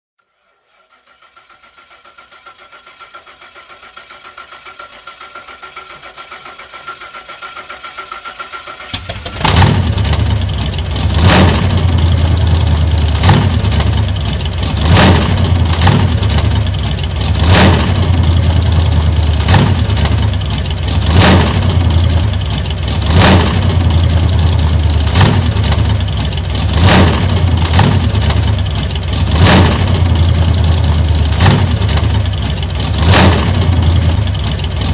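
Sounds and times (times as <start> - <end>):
car engine cranking on starter: 0.5 - 34.9
car engine running and surging: 1.1 - 34.9.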